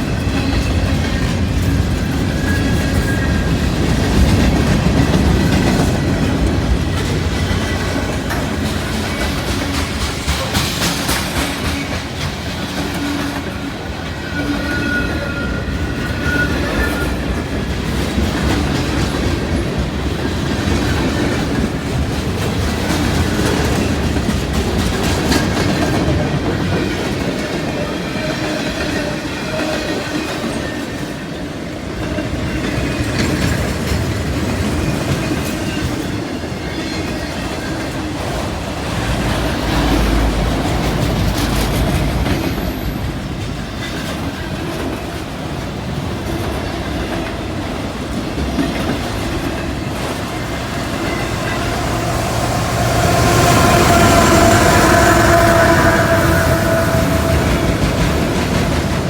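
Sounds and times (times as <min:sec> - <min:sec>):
train wheel squeal: 0:00.0 - 0:19.9, 0:20.7 - 0:45.1, 0:48.4 - 0:59.0
train wheels clacking on rails: 0:00.0 - 0:59.0.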